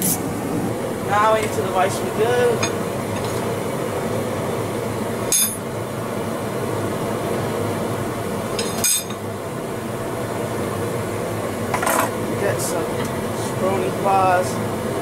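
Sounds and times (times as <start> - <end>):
forge burner roaring: 0.0 - 15.0.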